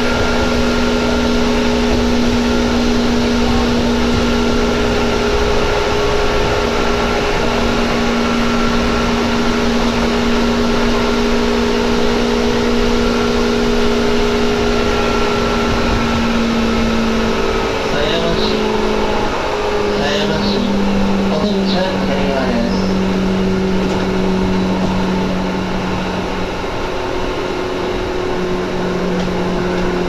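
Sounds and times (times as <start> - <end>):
electric train motor whine: 0.0 - 30.0
wheels rumbling on rail: 0.0 - 30.0.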